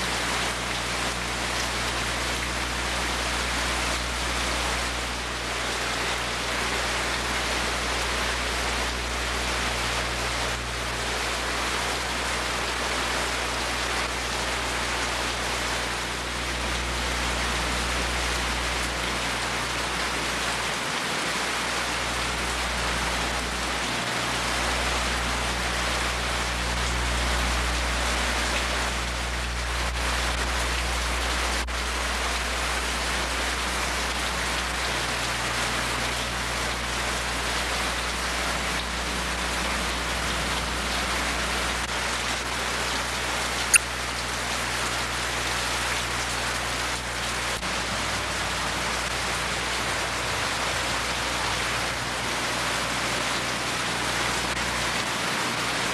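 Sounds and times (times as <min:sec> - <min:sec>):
low steady hum: 0:00.0 - 0:55.9
steady rain falling: 0:00.0 - 0:55.9.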